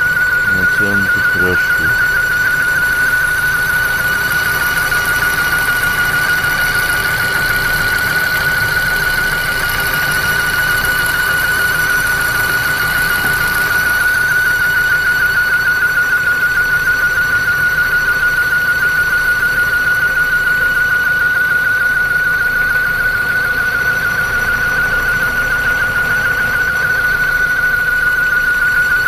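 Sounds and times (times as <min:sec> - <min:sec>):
car engine running: 0:00.0 - 0:29.0
high-pitched drive belt squeal: 0:00.0 - 0:29.0.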